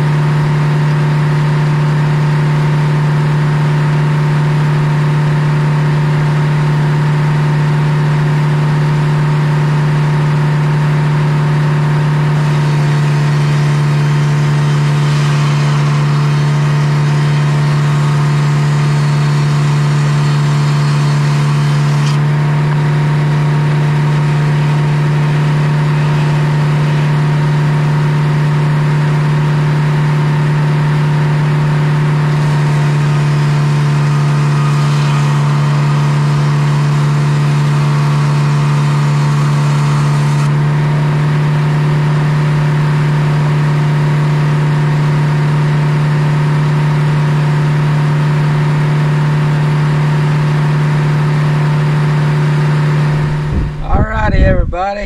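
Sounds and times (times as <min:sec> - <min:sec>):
saw cutting log: 0:00.0 - 0:53.6
sawmill humming: 0:00.0 - 0:54.4.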